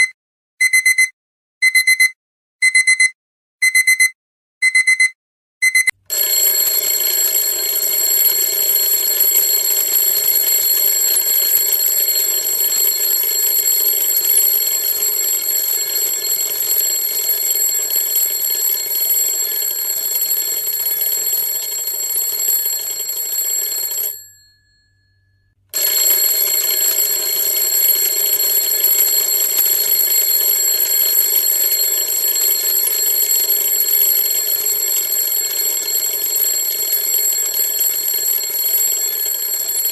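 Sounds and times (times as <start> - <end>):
alarm clock bell ringing: 6.1 - 39.9.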